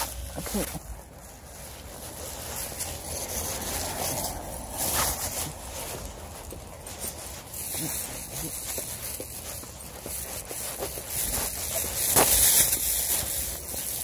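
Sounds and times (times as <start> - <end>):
footsteps in dry leaves: 0.0 - 14.0
plastic bag crinkling: 0.0 - 14.0.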